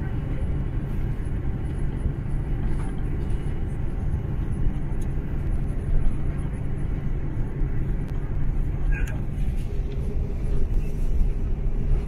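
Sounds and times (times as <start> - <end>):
low rumble inside aircraft cabin: 0.0 - 12.0.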